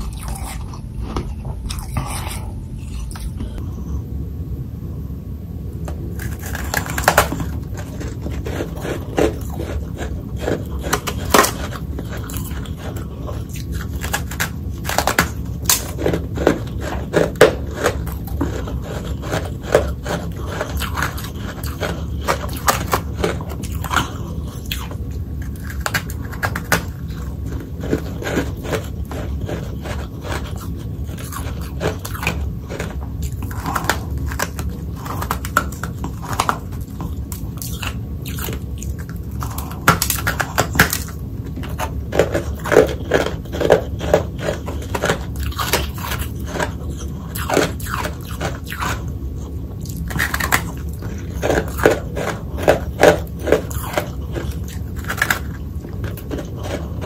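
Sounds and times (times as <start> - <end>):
chewing crunchy frost: 0.0 - 4.0, 6.1 - 57.0.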